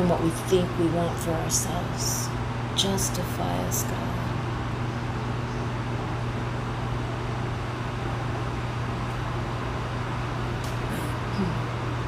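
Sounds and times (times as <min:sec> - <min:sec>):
constant background hiss: 0:00.0 - 0:12.0
steady low hum: 0:00.0 - 0:12.0.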